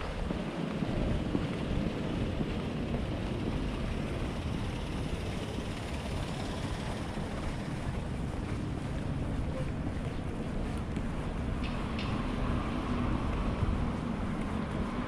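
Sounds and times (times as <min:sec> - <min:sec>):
city background hiss: 0:00.0 - 0:15.0
wind buffeting microphone: 0:00.0 - 0:15.0.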